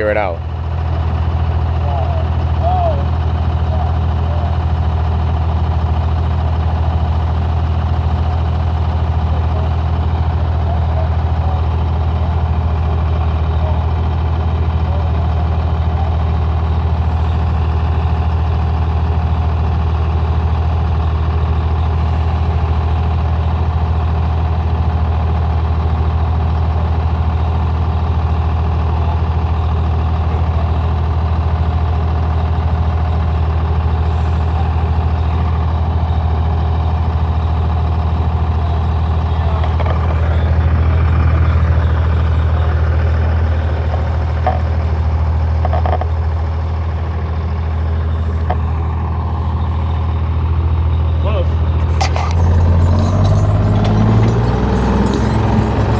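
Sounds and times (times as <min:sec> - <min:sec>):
large vehicle engine humming: 0:00.0 - 0:55.9.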